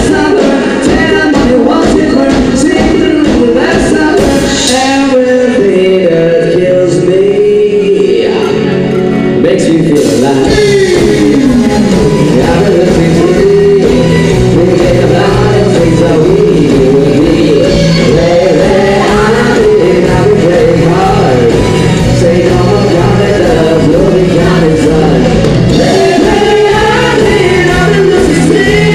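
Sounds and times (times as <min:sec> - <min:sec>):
live band playing: 0:00.0 - 0:28.9
person singing: 0:00.0 - 0:28.9.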